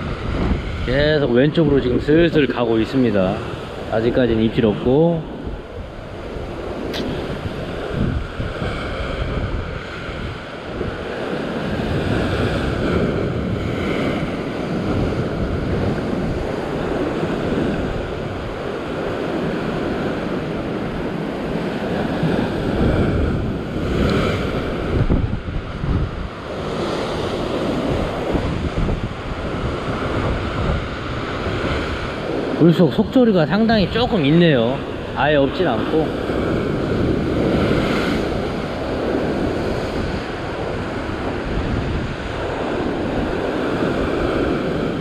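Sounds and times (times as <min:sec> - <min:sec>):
surf breaking on rocks: 0:00.0 - 0:45.0
wind buffeting microphone: 0:00.0 - 0:45.0.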